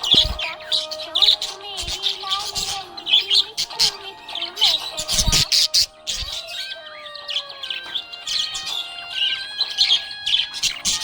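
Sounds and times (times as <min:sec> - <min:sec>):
budgies chirping: 0:00.0 - 0:11.0
music with held gliding notes: 0:00.0 - 0:11.0.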